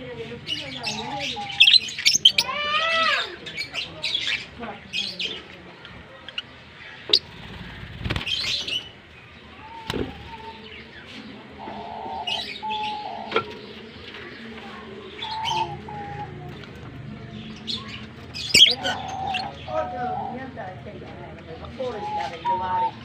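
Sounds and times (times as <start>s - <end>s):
lovebirds chirping: 0.0s - 23.0s.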